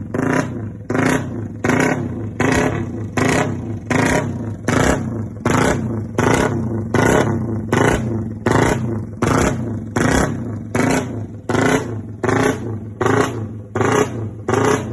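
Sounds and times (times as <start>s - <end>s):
engine revving over idle: 0.0s - 14.9s.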